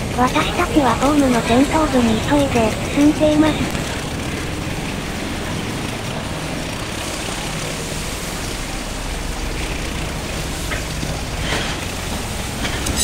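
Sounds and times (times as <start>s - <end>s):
low hum and rumble: 0.0s - 13.0s.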